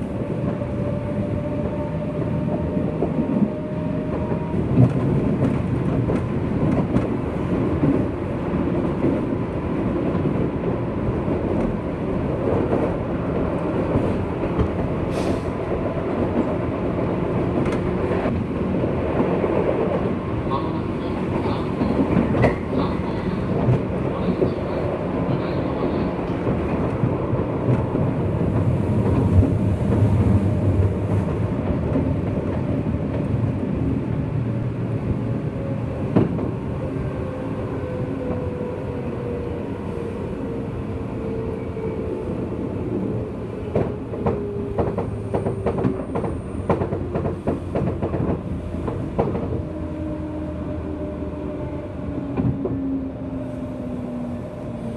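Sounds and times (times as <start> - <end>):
train wheel and motor rumble: 0.0 - 54.9.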